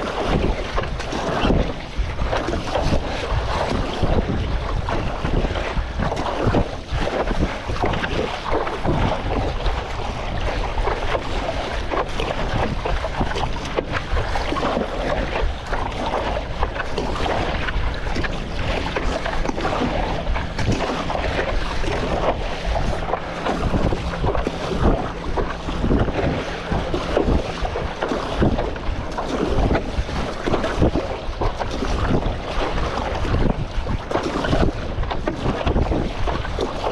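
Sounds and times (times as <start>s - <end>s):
water splashing around paddleboard: 0.0s - 36.9s
wind buffeting microphone: 0.0s - 36.9s.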